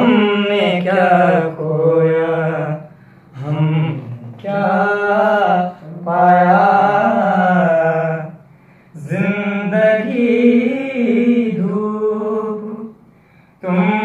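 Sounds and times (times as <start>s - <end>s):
man singing: 0.0s - 8.4s, 9.0s - 13.0s, 13.6s - 14.0s.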